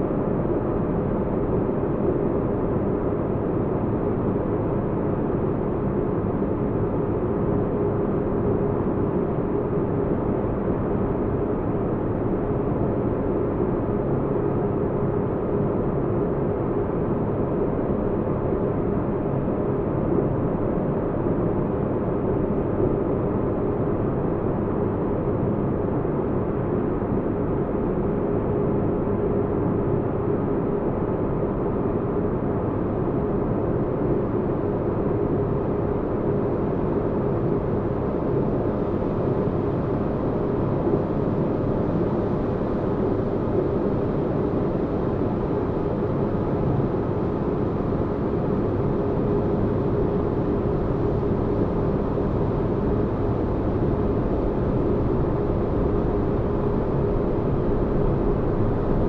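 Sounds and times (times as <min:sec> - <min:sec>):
faint constant hum: 0:00.0 - 0:59.0.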